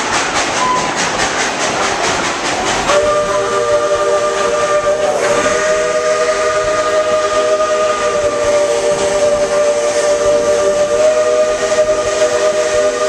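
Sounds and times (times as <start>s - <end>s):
steam locomotive whistle: 0.0s - 2.0s, 2.7s - 13.0s
hiss of steam: 0.0s - 13.0s.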